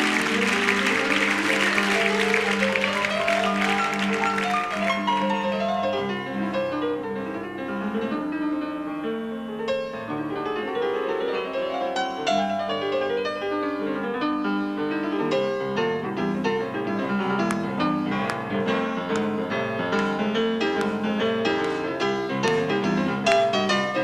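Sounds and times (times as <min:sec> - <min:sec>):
piano in live rock band: 0:00.0 - 0:24.0.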